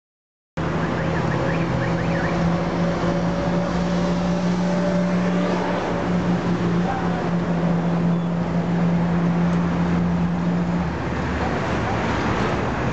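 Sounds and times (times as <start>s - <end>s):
road traffic noise: 0.6s - 12.9s.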